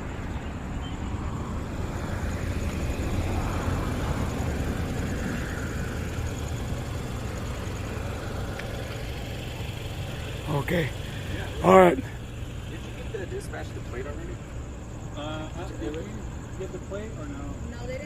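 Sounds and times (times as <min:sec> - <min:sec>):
low rumble of street noise: 0:00.0 - 0:18.0
vehicle passing: 0:00.0 - 0:18.0.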